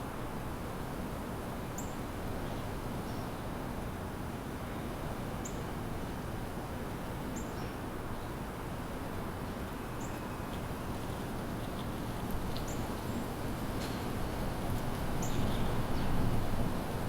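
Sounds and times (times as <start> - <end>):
city background hum: 0.0 - 17.0.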